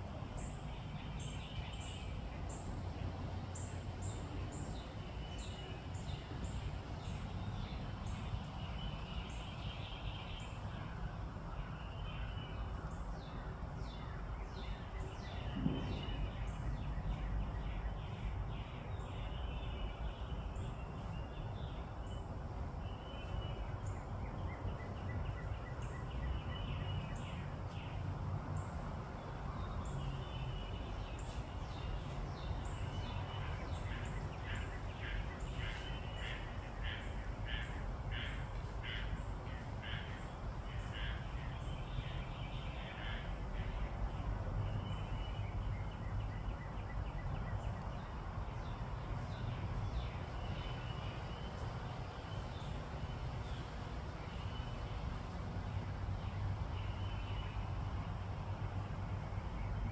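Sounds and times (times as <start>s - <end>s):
low outdoor background noise: 0.0s - 59.9s
birds chirping: 0.1s - 59.9s.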